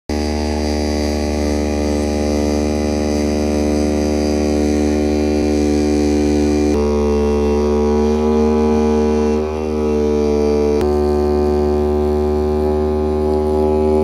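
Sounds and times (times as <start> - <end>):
oscillating knife buzzing: 0.1 - 14.0.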